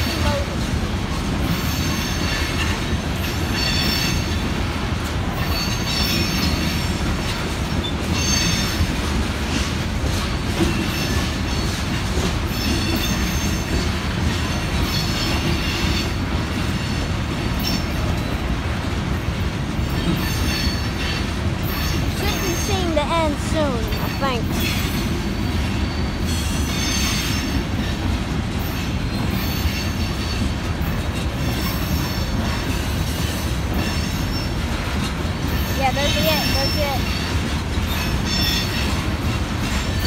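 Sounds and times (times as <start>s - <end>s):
clacks over rail joints: 0.0s - 40.0s
train wheels rumbling on rail: 0.0s - 40.0s.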